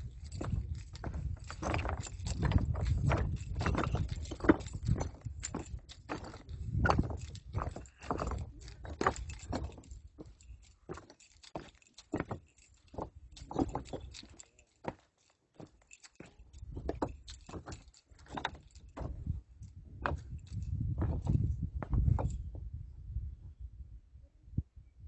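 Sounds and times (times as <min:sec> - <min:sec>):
footsteps on stony ground: 0:00.0 - 0:22.5.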